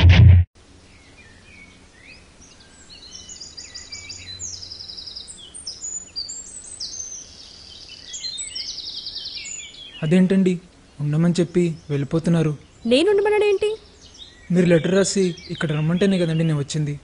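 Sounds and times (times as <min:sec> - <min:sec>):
small birds chirping: 0:00.8 - 0:17.0.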